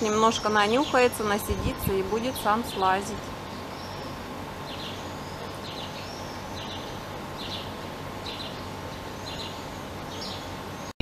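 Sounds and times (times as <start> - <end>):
bird chirping: 0.0 - 11.0
low background hum: 0.0 - 11.0.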